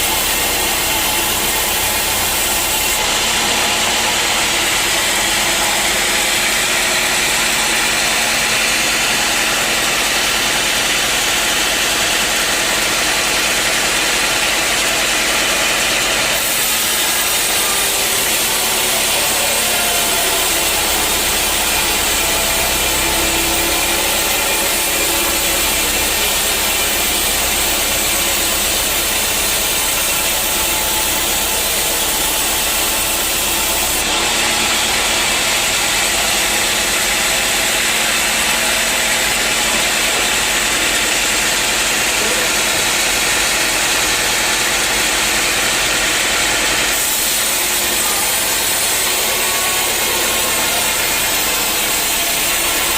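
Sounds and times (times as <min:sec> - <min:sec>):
band saw sawing wood: 0:00.0 - 0:52.9.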